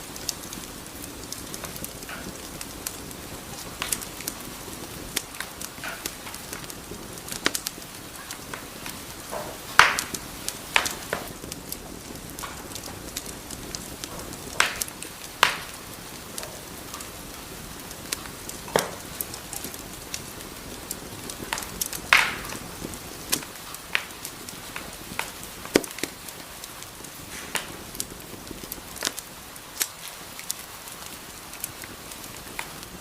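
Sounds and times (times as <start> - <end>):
sharp pops of fire: 0.0 - 33.0
wood fire burning: 0.0 - 33.0.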